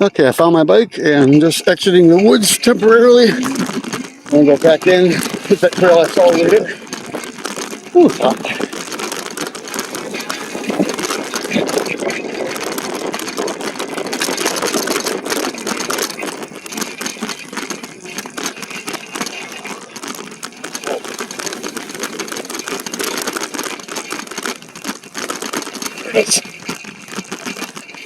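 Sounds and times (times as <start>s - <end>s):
bike and basket rattling: 0.0s - 28.0s
tyre noise on rough ground: 0.0s - 28.0s.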